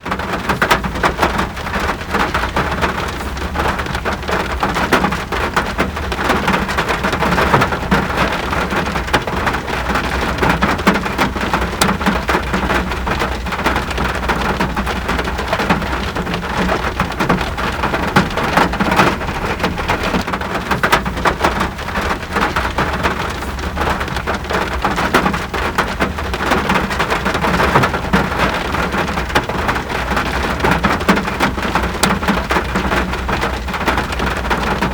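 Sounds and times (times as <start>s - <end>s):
heavy rain patter: 0.0s - 34.9s.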